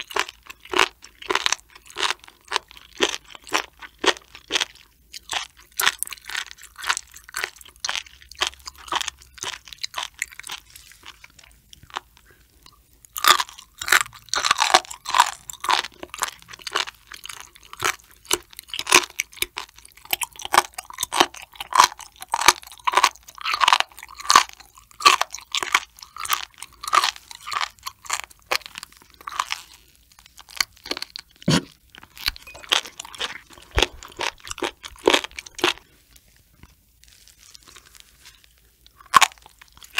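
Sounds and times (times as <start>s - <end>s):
chewing rubbery food crunches: 0.0s - 39.9s.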